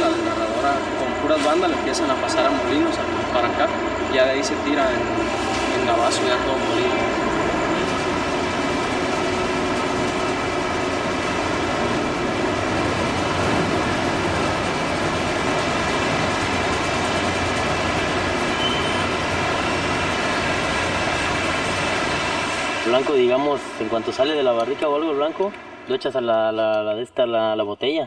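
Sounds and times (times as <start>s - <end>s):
shredding machinery drone: 0.0s - 26.0s.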